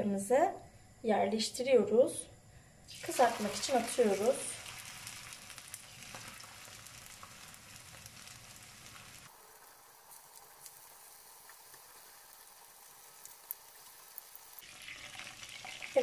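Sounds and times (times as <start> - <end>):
patties sizzling in oil: 2.9 - 16.0.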